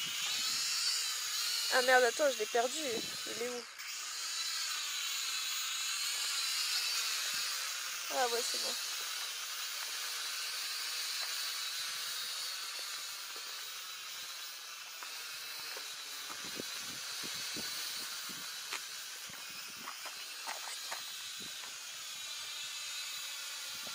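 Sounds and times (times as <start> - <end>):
toy drone propellers whining: 0.0 - 23.9.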